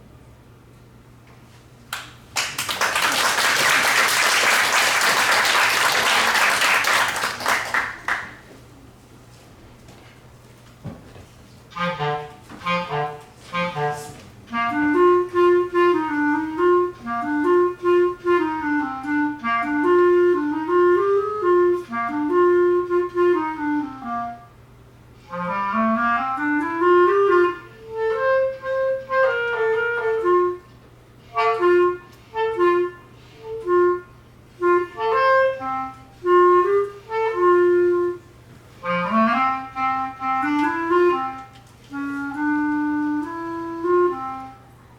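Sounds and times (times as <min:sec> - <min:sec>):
clarinet melody: 0:02.9 - 0:08.4, 0:11.6 - 0:44.9.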